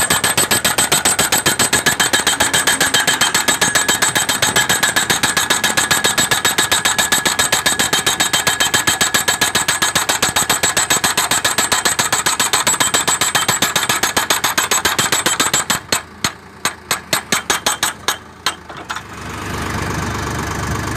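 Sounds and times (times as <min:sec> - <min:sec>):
post driver hammering steel post: 0:00.0 - 0:19.1.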